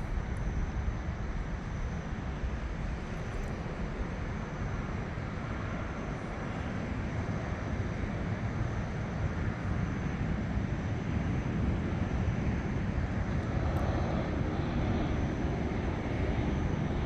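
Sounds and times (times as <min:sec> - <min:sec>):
airplane engine rumble: 0:00.0 - 0:17.0.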